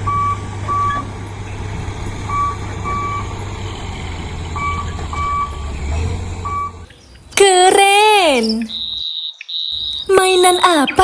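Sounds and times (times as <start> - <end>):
low engine rumble: 0.0 - 8.9
truck reversing alarm beeping: 0.0 - 11.0.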